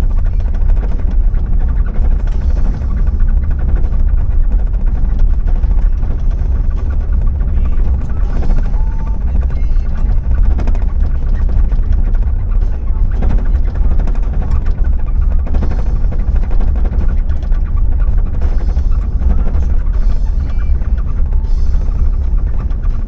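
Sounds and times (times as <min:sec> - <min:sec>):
fine rattle: 0:00.0 - 0:23.0
vehicle engine and road rumble: 0:00.0 - 0:23.0.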